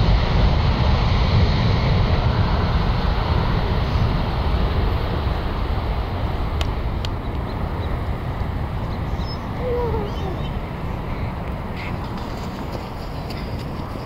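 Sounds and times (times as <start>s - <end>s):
jet engines roaring at takeoff: 0.0s - 14.0s.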